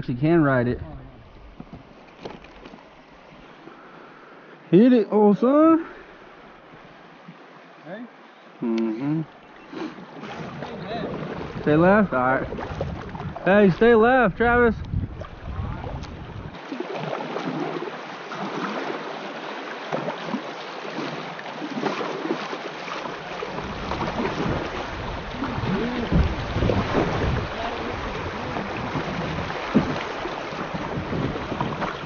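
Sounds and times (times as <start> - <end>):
river water rushing and splashing: 0.9 - 32.0.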